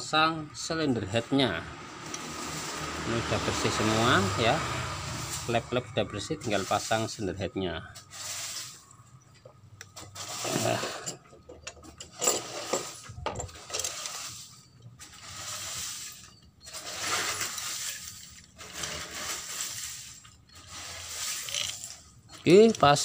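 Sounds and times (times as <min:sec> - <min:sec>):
metal parts rubbing and scraping: 0:02.0 - 0:07.3, 0:07.9 - 0:09.2, 0:09.8 - 0:23.0.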